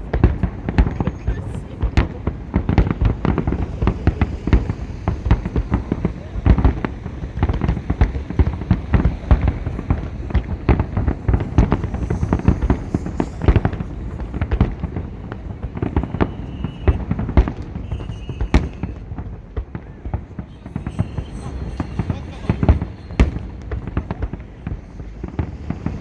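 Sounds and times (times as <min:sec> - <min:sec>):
fireworks bangs and pops: 0:00.0 - 0:26.0
sharp firework crack: 0:00.0 - 0:26.0.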